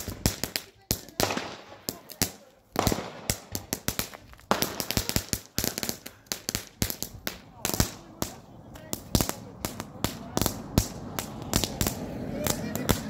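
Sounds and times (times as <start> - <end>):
fireworks bangs and crackles: 0.0 - 13.0
rushing firework burst: 0.0 - 13.0.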